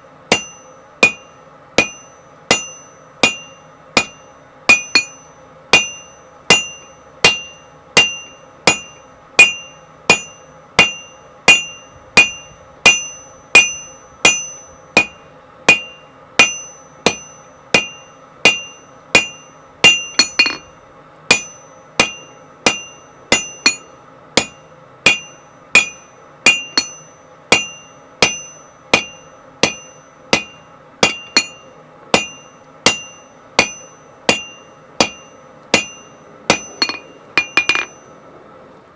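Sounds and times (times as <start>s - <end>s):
faint steady hum: 0.0s - 38.9s
hammer striking steel on anvil: 0.3s - 38.2s.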